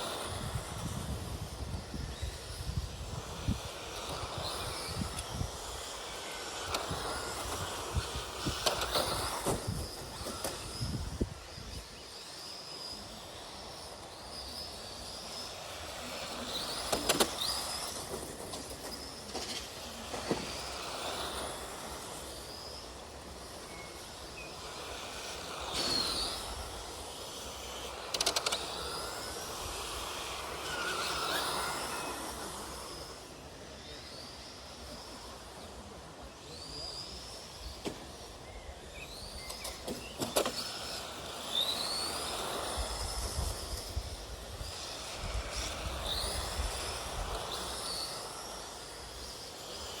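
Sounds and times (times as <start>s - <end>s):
electric motors whining: 0.0s - 50.0s.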